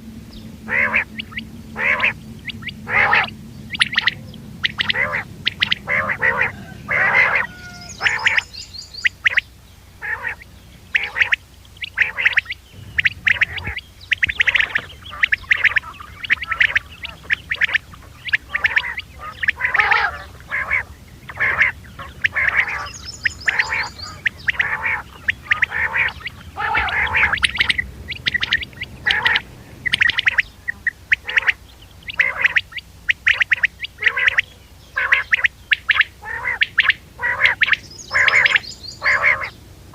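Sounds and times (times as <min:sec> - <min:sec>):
quail calling: 0:00.0 - 0:39.6.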